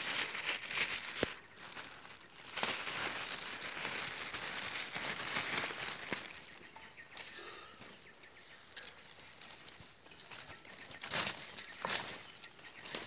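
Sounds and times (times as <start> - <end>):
dry leaves and twigs rustling: 0.0 - 13.0.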